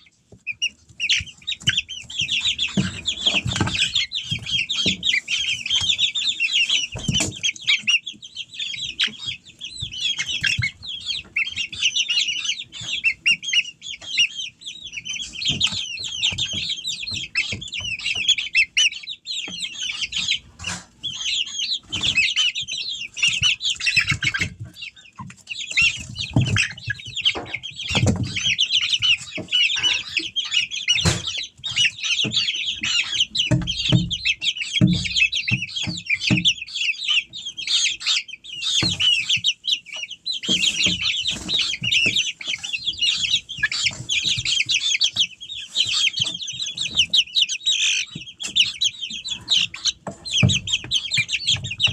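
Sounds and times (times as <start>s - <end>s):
chicks chirping and peeping: 0.0s - 51.9s.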